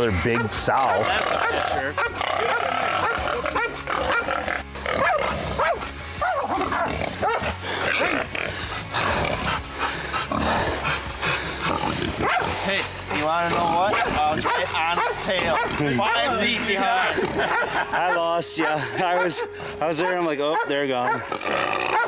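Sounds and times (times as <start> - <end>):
dogs barking: 0.0 - 22.0
hog squealing and grunting: 0.0 - 22.0.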